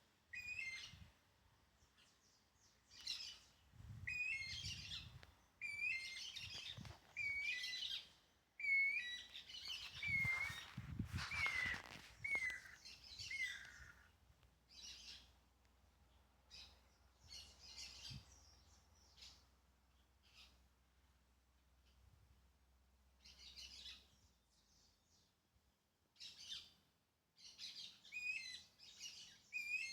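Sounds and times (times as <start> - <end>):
songbirds singing: 0.3 - 20.6, 23.2 - 25.4, 27.4 - 29.9.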